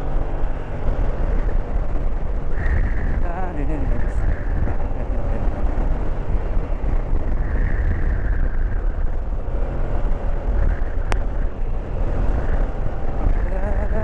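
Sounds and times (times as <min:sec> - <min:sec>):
motorcycle engine running: 0:00.0 - 0:14.0
road noise: 0:00.0 - 0:14.0
wind buffeting microphone: 0:00.0 - 0:14.0.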